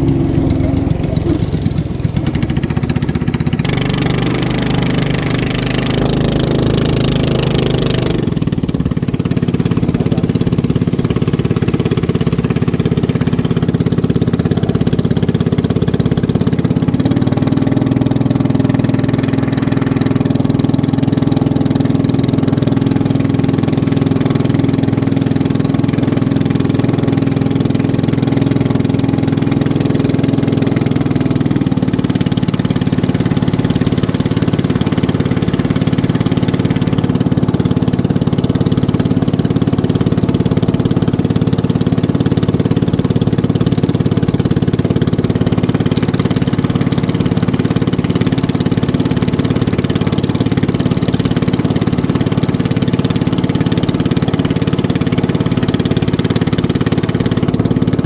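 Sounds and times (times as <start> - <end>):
racing boat engine running: 0.0 - 58.0.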